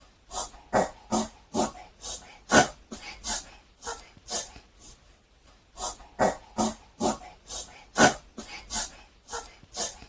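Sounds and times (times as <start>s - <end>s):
puppy reverse sneezing: 0.3s - 5.0s, 5.8s - 10.0s.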